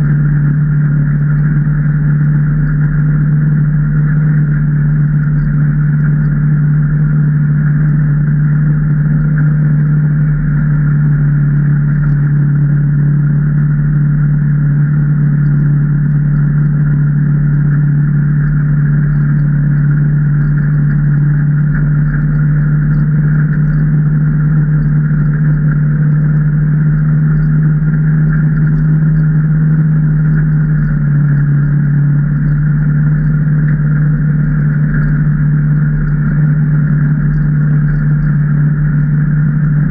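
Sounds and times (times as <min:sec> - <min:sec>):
engine droning: 0:00.0 - 0:39.9.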